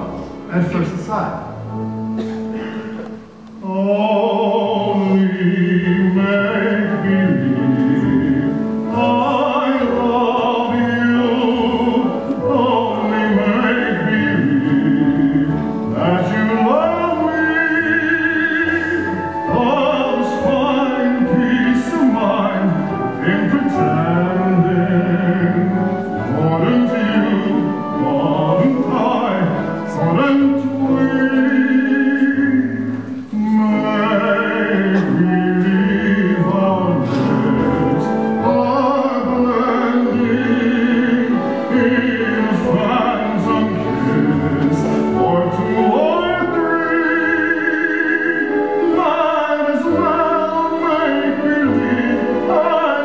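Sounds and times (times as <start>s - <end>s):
instrumental accompaniment: 0.0s - 53.0s
operatic singing with vibrato: 0.0s - 53.0s.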